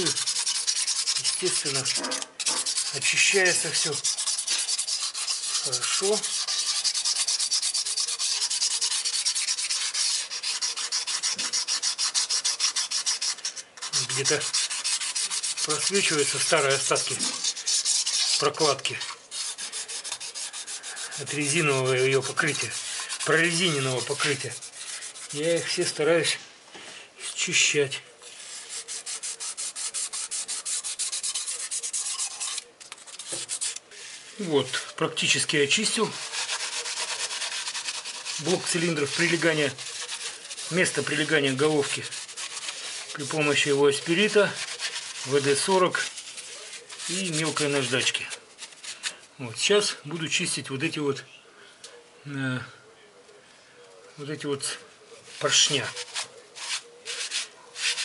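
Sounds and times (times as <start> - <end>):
sandpaper rubbing on metal: 0.0 - 26.4, 27.5 - 49.2, 54.6 - 58.0.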